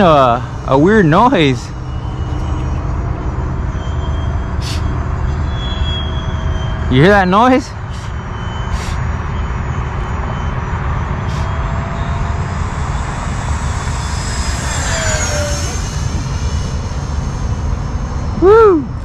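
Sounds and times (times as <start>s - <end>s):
ducted fans whining: 0.0s - 19.0s
heavy low rumble: 0.0s - 19.0s.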